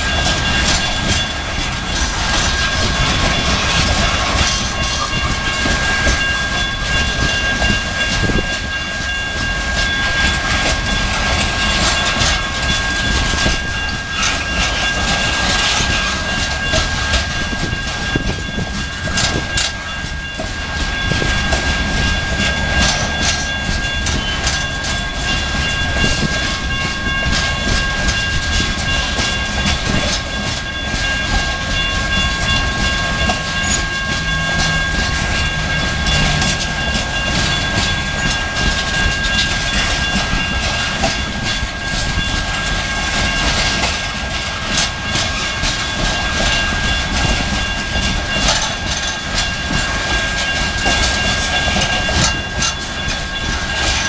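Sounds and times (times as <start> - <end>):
train rumble: 0.0 - 54.0
train wheels clicking over rail joints: 0.0 - 54.0.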